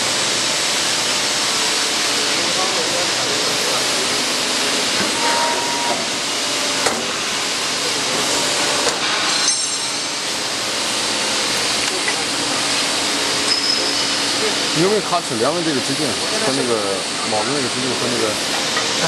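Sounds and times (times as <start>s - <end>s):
riveting machine hissing: 0.0s - 19.0s.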